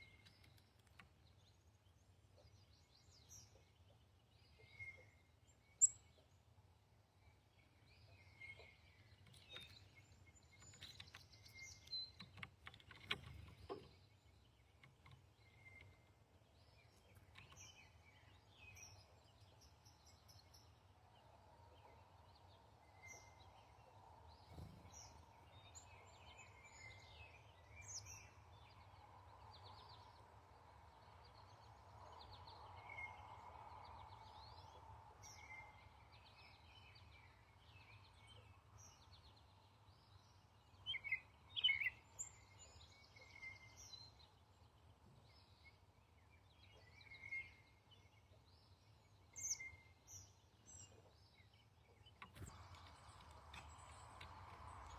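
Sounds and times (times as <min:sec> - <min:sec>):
faint background noise: 0:00.0 - 0:54.9
songbirds chirping and singing: 0:07.3 - 0:54.9.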